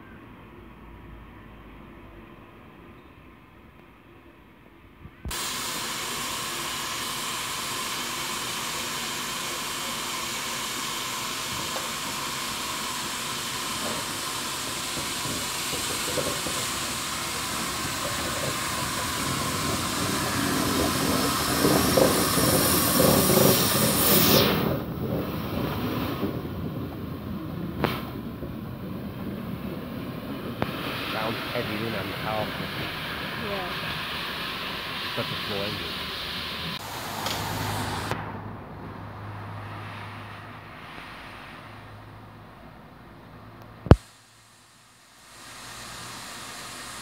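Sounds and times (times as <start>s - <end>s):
steam locomotive hissing steam: 5.3s - 38.3s, 38.9s - 42.3s, 43.9s - 47.0s
locomotive rumble: 6.1s - 43.8s.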